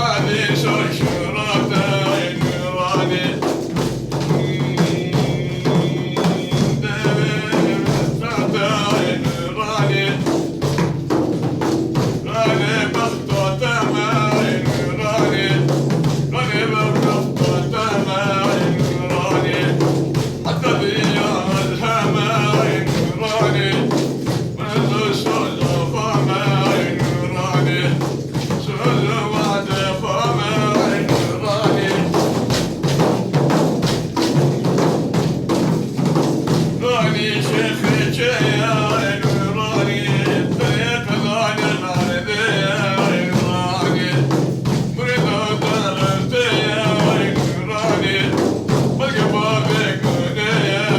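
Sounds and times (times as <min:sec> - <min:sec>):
hand drum beats: 0:00.0 - 0:50.9
man singing devotional song: 0:00.0 - 0:50.9.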